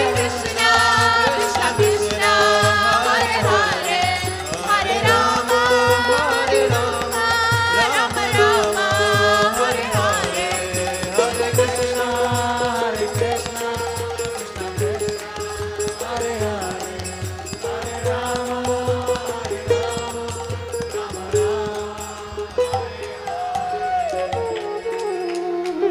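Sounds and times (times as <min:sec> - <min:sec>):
harmonium: 0:00.0 - 0:25.9
woman singing: 0:00.0 - 0:25.9.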